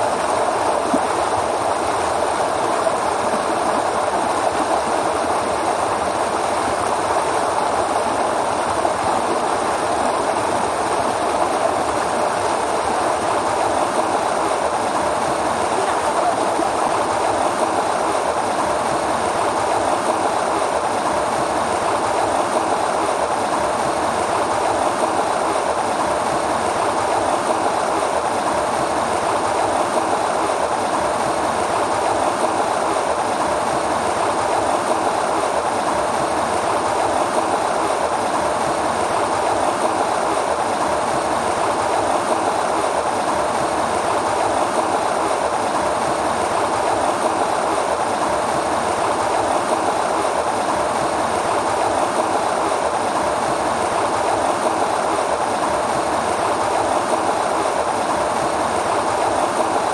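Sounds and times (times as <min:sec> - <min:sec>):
stream water rushing over rock: 0:00.0 - 0:59.9.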